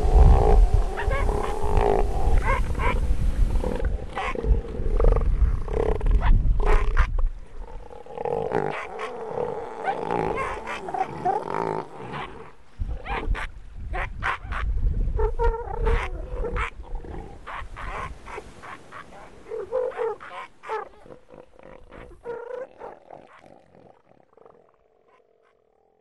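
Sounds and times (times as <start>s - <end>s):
elephant seals bellowing and roaring: 0.0s - 26.0s.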